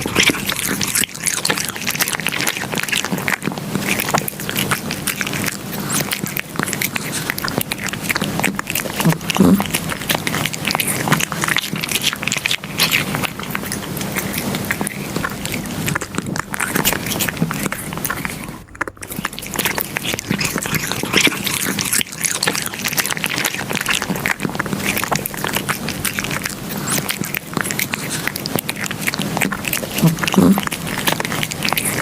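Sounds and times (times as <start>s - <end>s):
cat chewing wetly: 0.0s - 32.0s.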